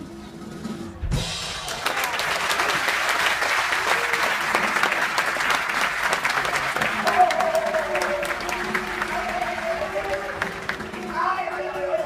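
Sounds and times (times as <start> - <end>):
audience applauding: 1.5 - 11.5.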